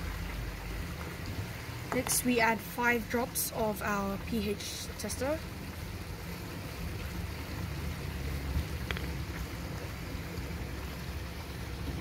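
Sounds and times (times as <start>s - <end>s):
circulating pond water: 0.0s - 12.0s.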